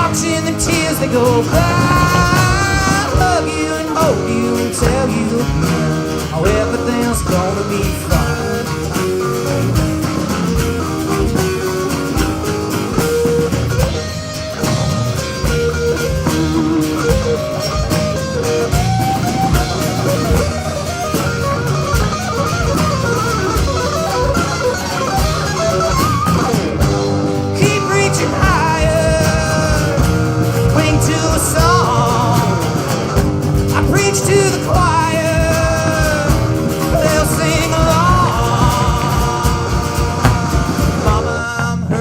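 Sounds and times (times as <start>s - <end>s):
lead guitar bending notes: 0.0s - 41.5s
live rock band playing: 0.0s - 41.9s.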